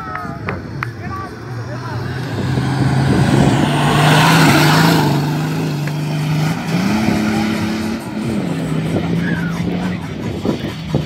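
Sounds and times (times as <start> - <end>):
engine running at high revs: 0.5 - 11.0.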